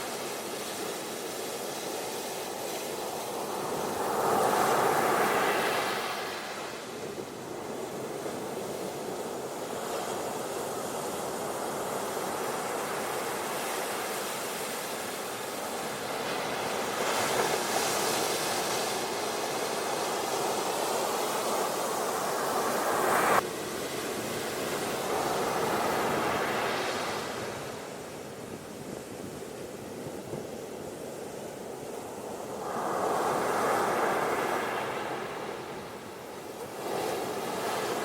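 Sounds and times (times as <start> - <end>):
ocean waves washing onto beach: 0.0 - 38.0.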